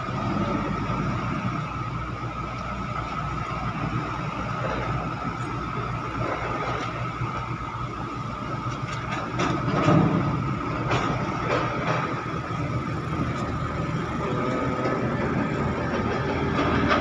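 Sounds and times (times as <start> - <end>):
diesel machinery engines running: 0.0 - 17.0
truck driving closer: 0.0 - 17.0.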